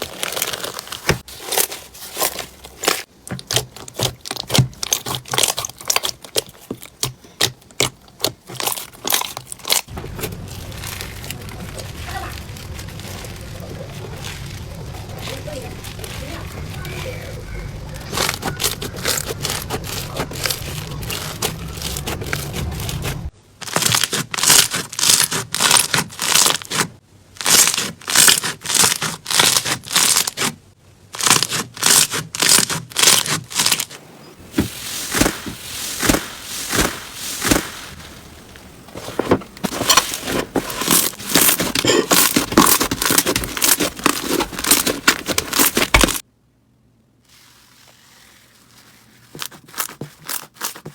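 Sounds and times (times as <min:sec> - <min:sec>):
slime crackling squishes: 0:00.0 - 0:30.6, 0:31.2 - 0:46.2, 0:47.2 - 0:50.9.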